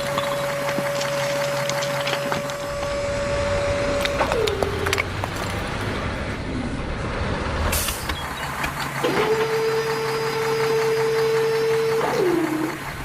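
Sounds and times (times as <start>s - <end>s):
rough mechanical rumble: 0.0s - 13.0s.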